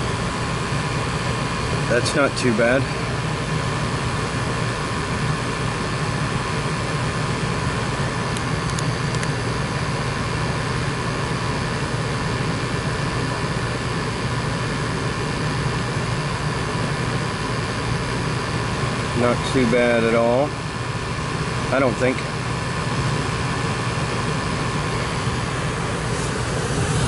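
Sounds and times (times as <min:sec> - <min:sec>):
furnace blower drone: 0:00.0 - 0:27.0.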